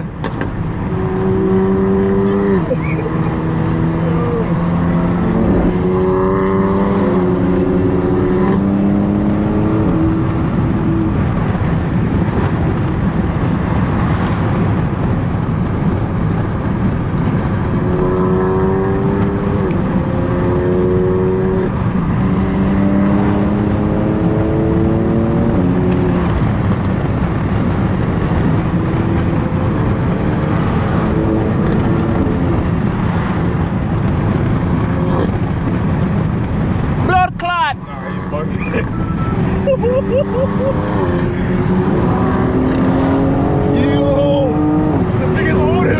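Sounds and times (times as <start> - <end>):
car engine accelerating through gears: 0.0 - 37.1, 37.8 - 45.9
road roar: 0.0 - 45.9.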